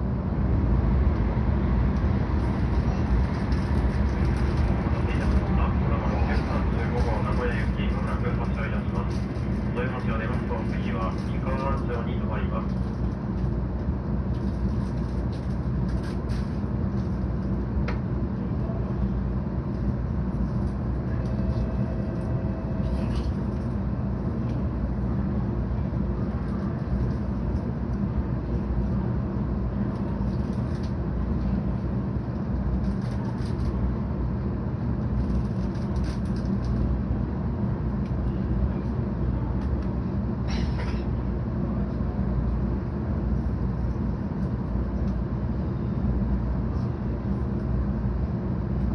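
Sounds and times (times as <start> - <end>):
train car rumble and hum: 0.0 - 48.9.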